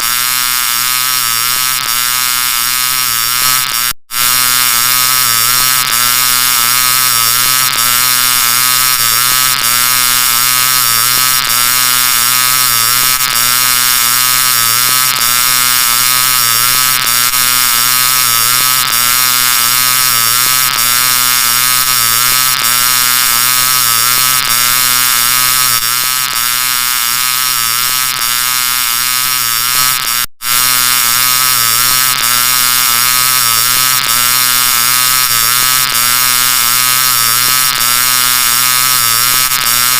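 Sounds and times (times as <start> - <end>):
distorted electronic buzzing drone: 0.0 - 39.9.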